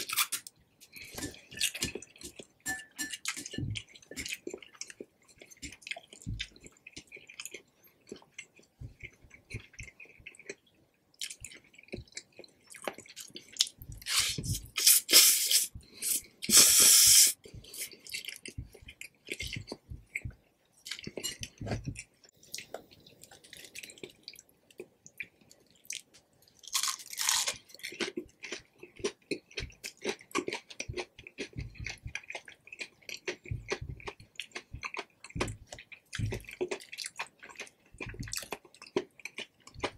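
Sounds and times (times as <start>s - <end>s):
wet chewing: 0.0s - 16.6s, 17.4s - 39.9s.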